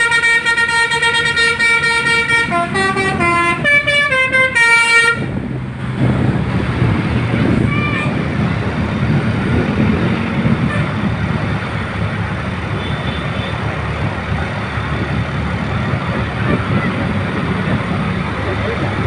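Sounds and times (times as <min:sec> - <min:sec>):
large vehicle passing: 0:00.0 - 0:19.0.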